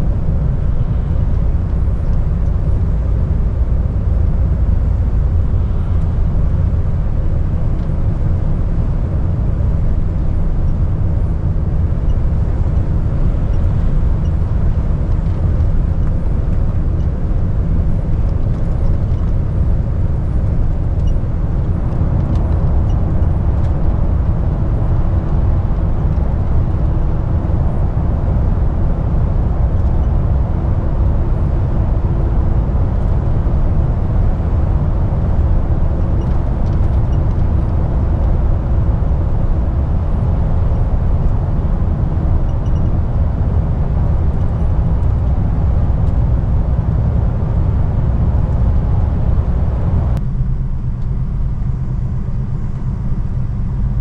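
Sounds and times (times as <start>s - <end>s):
lorry engine and tyre rumble: 0.0s - 54.0s.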